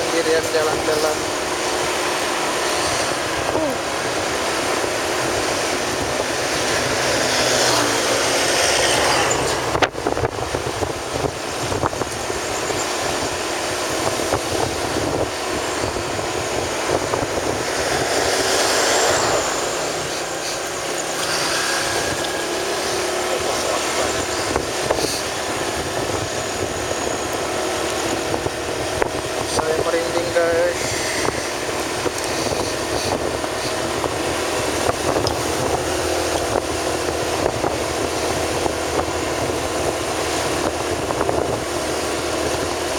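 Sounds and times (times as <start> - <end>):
vehicle road and wind noise: 0.0 - 42.9.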